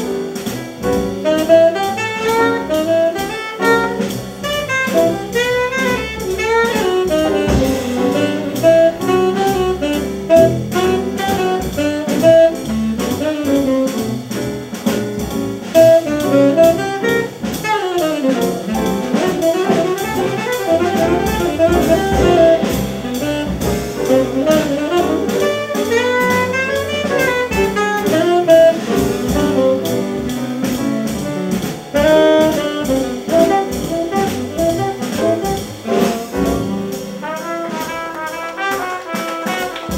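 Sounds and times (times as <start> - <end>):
drum kit: 0.0 - 39.9
walking double bass: 0.0 - 39.9
tenor saxophone solo: 1.2 - 14.0, 15.8 - 30.6, 31.9 - 36.4, 37.2 - 39.9.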